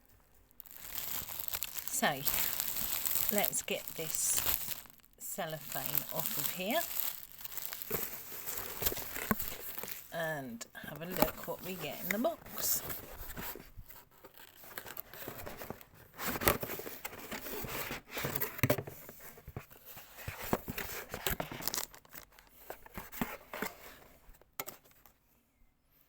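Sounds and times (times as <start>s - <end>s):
cellophane crinkling and tearing: 0.5s - 10.2s, 10.8s - 18.7s, 19.7s - 23.7s.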